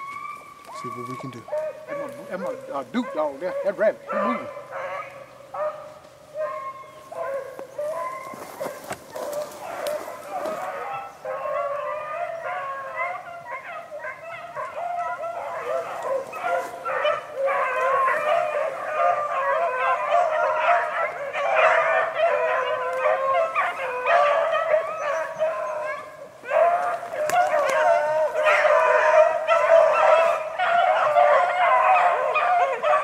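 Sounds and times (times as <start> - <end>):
pack of dogs bawling and yelping: 0.0 - 33.0.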